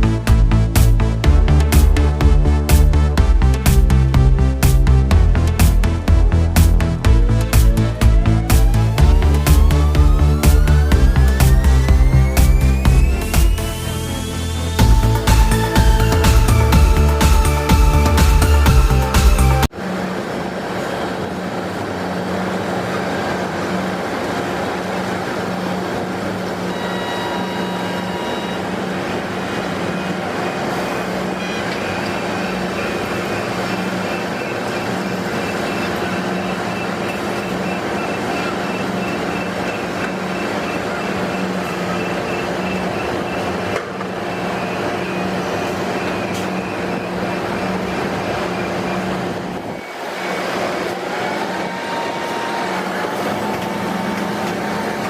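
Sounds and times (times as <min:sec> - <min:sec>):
heavy machinery running: 0:00.0 - 0:55.0.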